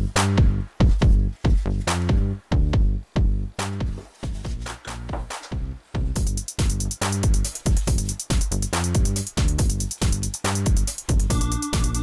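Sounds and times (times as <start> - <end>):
dance music with bass line: 0.0 - 12.0.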